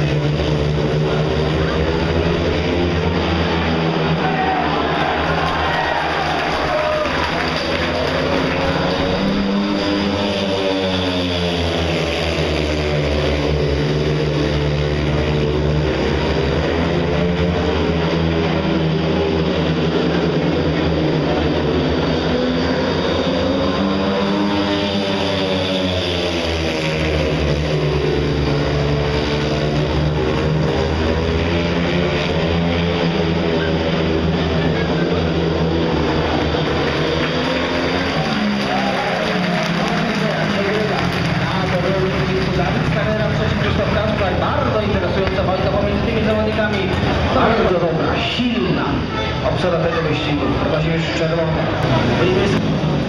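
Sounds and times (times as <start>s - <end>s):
motorcycles racing: 0.0s - 53.0s.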